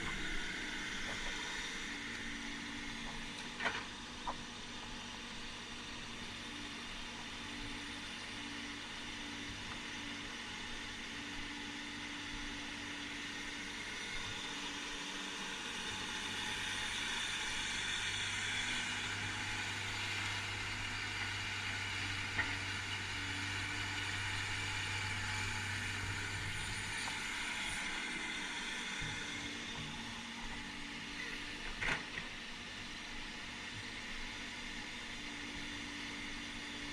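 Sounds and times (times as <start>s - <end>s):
heavy machinery diesel engine: 0.0s - 36.9s.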